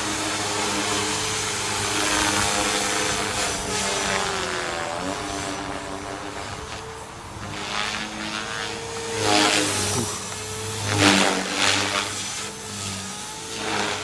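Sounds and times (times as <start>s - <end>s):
rc helicopter motor hum: 0.0s - 14.0s
rotor blades whooshing: 0.0s - 14.0s.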